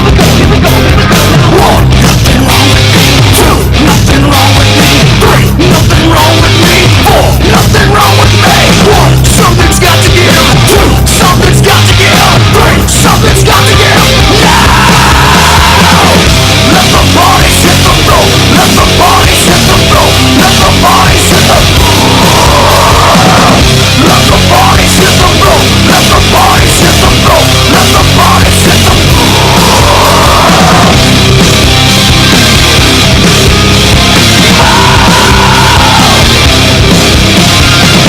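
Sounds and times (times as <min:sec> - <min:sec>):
heavy metal music: 0:00.0 - 0:38.0.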